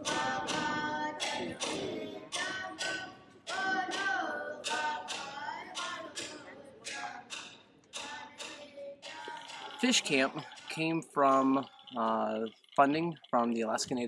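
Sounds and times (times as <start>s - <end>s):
person singing: 0.0s - 13.8s.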